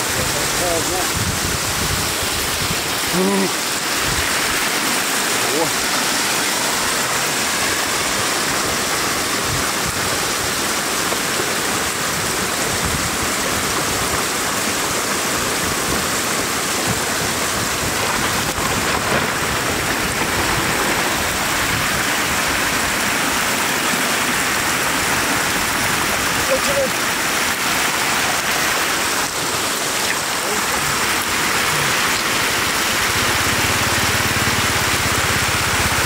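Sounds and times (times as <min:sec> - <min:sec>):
floodwater rushing onto gravel: 0:00.0 - 0:36.0.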